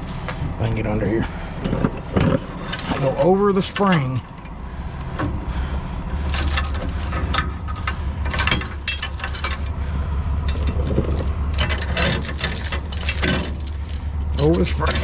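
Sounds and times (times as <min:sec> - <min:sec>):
steel chain clinking and rattling: 0:00.0 - 0:00.4, 0:01.6 - 0:04.6, 0:06.2 - 0:15.0
engine idling: 0:00.0 - 0:15.0.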